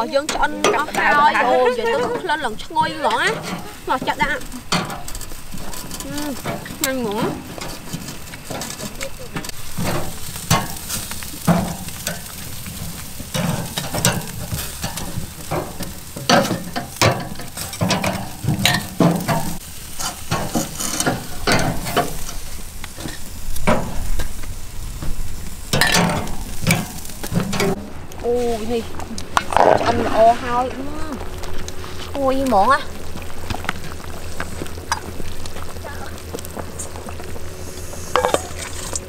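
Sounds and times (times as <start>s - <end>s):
utensil scraping and clinking: 0.0s - 24.3s, 29.2s - 39.0s
food sizzling in a pan: 0.0s - 39.0s.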